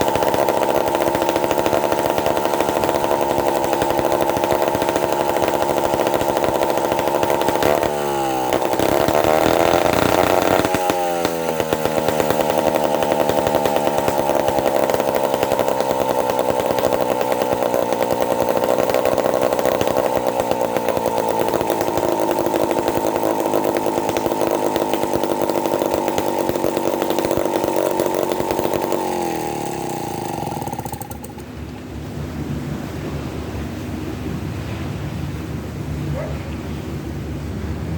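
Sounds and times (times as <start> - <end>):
chainsaw running at high revs: 0.0 - 31.7.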